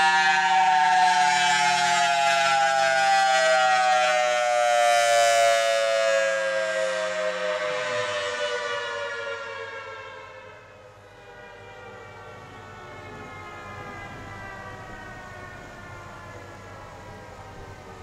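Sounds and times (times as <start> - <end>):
civil defense siren winding down: 0.0 - 18.0.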